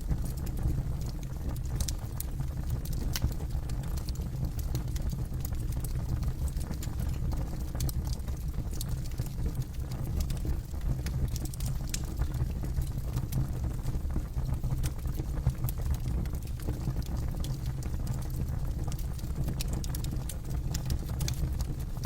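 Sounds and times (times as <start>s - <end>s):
burning wood crackling and popping: 0.0s - 22.0s
low rumble of flames: 0.0s - 22.0s.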